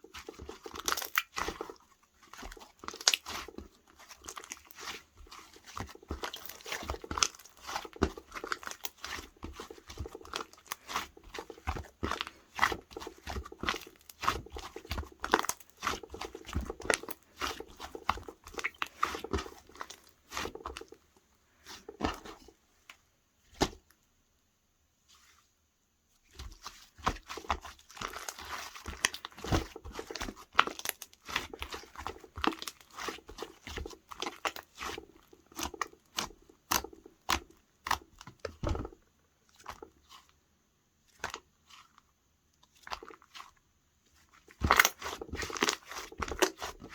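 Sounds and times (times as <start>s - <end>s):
hands squishing slime: 0.0s - 24.0s, 26.2s - 46.9s.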